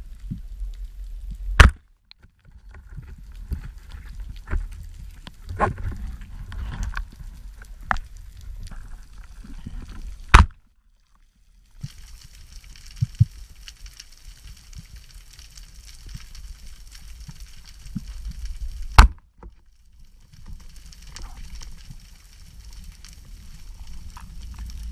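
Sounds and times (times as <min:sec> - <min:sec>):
steady high hiss with crackling: 0:00.0 - 0:24.9
underwater rumbling water noise: 0:00.0 - 0:24.9.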